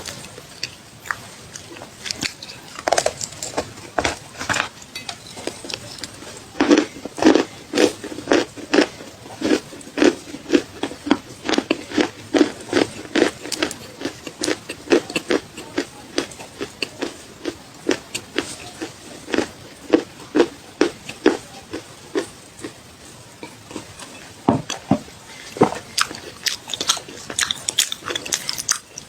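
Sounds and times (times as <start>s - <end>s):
person chewing crunchy clay: 0.0s - 22.8s, 23.4s - 29.0s.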